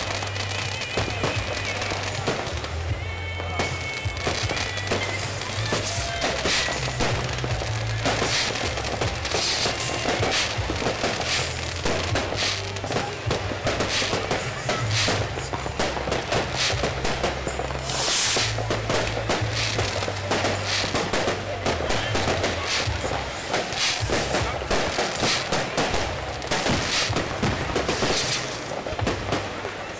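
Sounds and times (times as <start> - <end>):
fireworks bangs and crackling: 0.0 - 29.9
music: 0.0 - 29.9.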